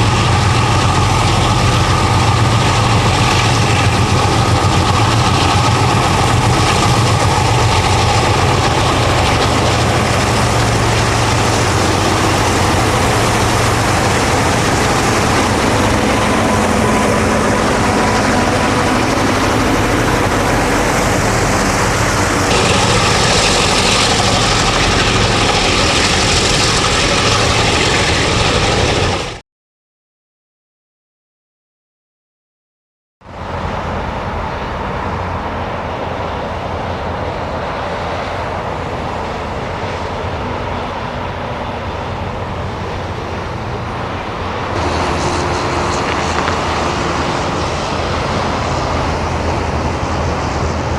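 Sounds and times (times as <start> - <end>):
diesel locomotive engines running: 0.0 - 29.4, 33.2 - 50.9.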